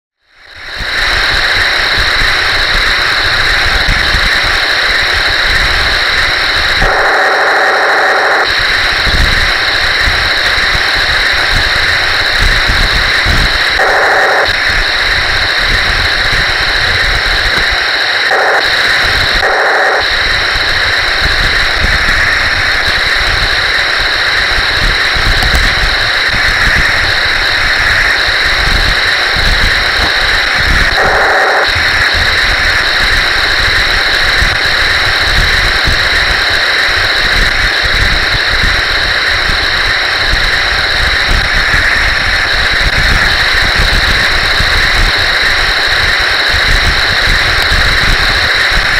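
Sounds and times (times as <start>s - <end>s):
electric motor whine: 0.5s - 48.9s.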